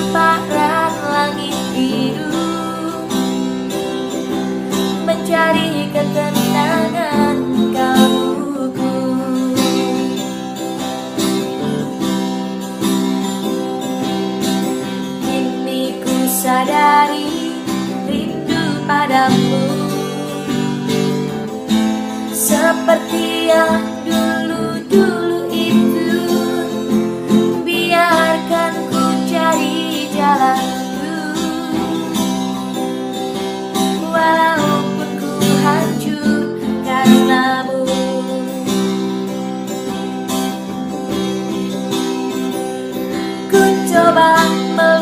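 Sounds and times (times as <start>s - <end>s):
strummed acoustic guitar: 0.0s - 45.0s.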